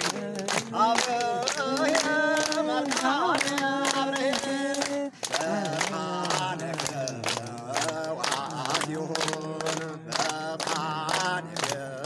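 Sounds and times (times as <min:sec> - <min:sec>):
group singing chant-like song: 0:00.0 - 0:12.0
hand clapping: 0:00.0 - 0:12.0.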